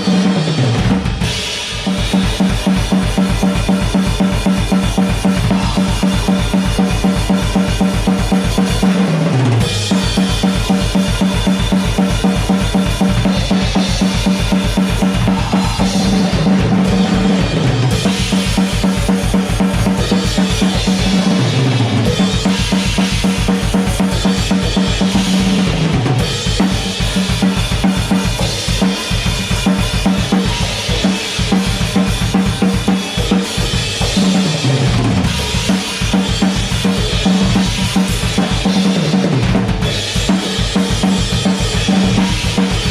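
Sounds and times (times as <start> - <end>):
snare and cymbals: 0.0 - 42.9.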